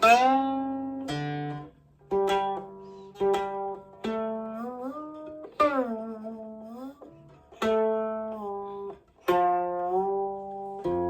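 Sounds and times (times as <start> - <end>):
plucked zither notes: 0.0 - 11.0.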